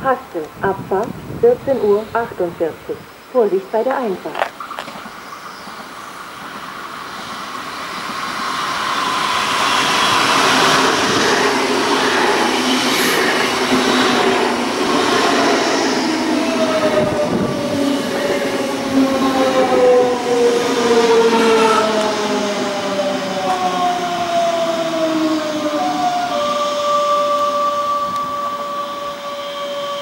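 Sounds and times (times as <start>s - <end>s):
train rolling noise: 3.8s - 30.0s.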